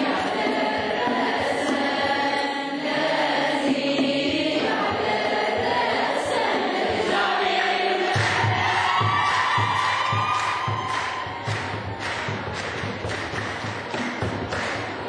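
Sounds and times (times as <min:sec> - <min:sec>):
congregation singing a hymn: 0:00.0 - 0:12.1.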